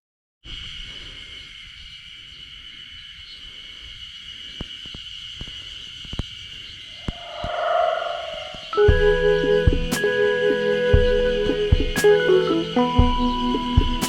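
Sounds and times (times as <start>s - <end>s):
insect chorus: 0.4s - 14.0s.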